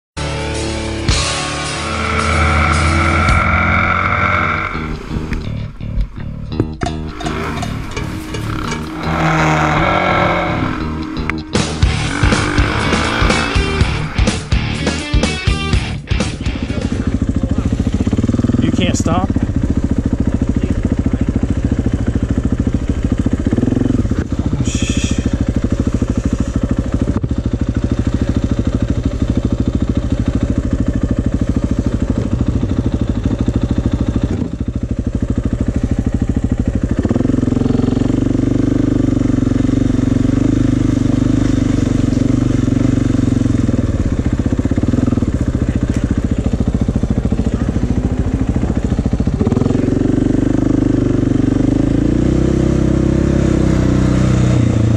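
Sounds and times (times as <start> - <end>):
dirt bike engine idling and revving: 0.2 - 54.9.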